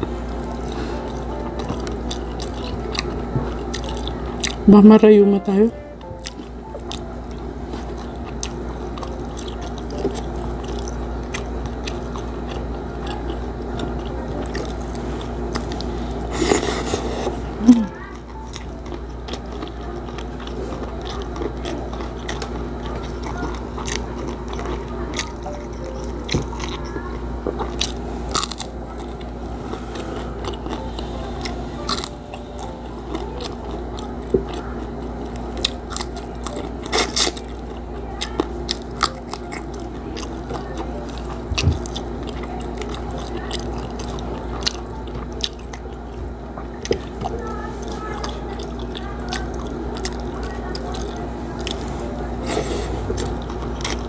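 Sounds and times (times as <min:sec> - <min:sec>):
chewing and crunching: 0:00.0 - 0:05.4, 0:06.0 - 0:54.0.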